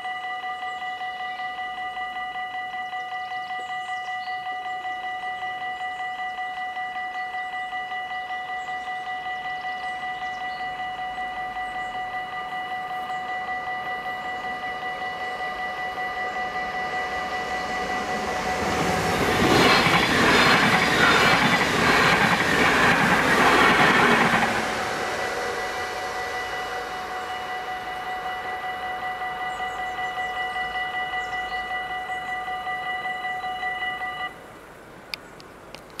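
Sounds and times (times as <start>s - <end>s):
railroad crossing bell ringing: 0.0s - 34.5s
train passing: 3.6s - 36.0s.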